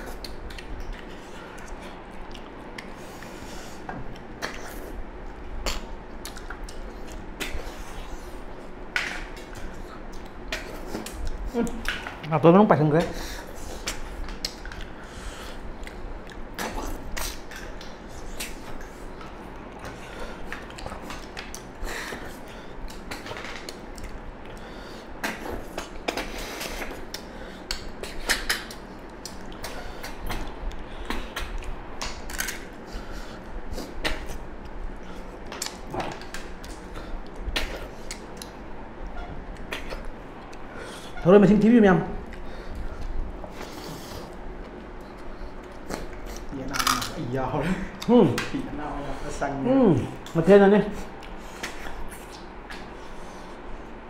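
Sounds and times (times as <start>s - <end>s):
slurping and smacking while eating: 0.0s - 12.3s, 13.0s - 41.2s, 50.0s - 54.0s.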